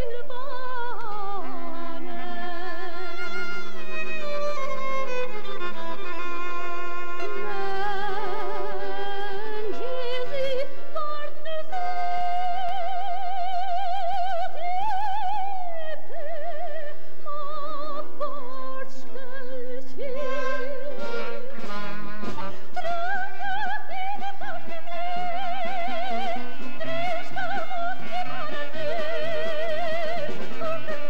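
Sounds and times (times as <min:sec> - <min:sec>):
woman singing with vibrato: 0:00.0 - 0:04.8, 0:07.2 - 0:31.0
instrumental accompaniment: 0:00.0 - 0:31.0.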